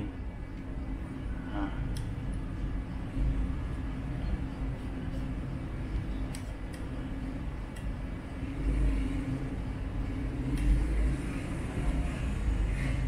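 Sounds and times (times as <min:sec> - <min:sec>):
low rumble with hum: 0:00.0 - 0:13.0.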